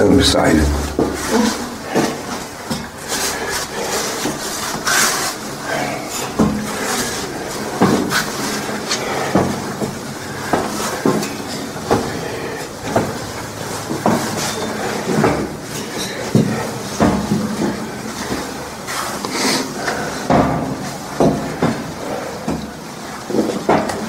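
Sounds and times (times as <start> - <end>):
footsteps on steel grating: 0.1 - 24.0.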